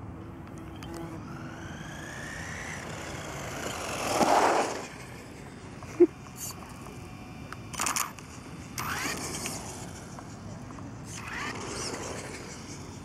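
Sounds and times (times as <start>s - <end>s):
electric motor whining: 0.2s - 13.0s.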